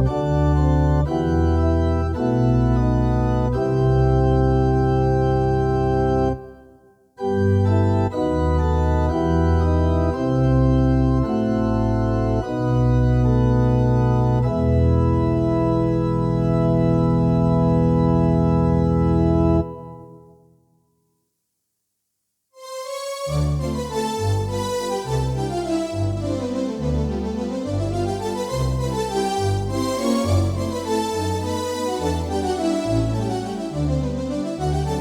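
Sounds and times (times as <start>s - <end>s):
keyboard organ chords: 0.0s - 20.4s, 22.6s - 35.0s.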